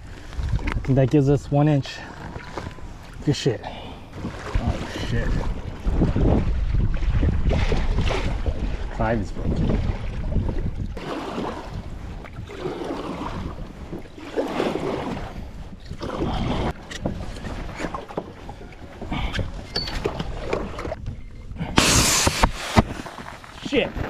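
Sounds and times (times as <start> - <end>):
wind rumbling on microphone: 0.0 - 3.3, 4.0 - 24.0
water splashing around kayak: 0.0 - 24.0.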